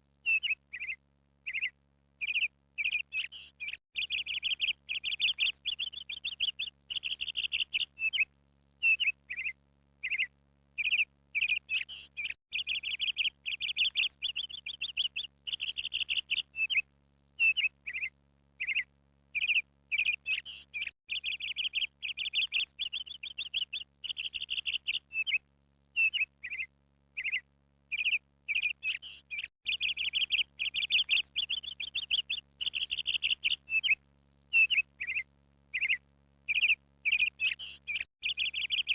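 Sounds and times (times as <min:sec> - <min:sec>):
small birds chirping and trilling: 0:00.2 - 0:38.9.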